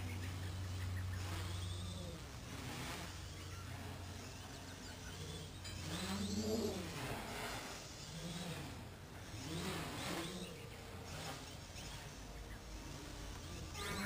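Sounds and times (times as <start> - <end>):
quadcopter motors whining: 0.0 - 14.0
steady low hum: 0.0 - 14.0.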